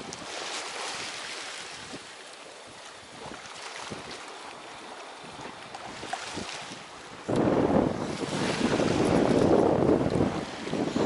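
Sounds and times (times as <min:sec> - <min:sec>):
wind noise on microphone: 0:00.0 - 0:04.2, 0:04.8 - 0:11.0
sea waves splashing: 0:00.0 - 0:11.0.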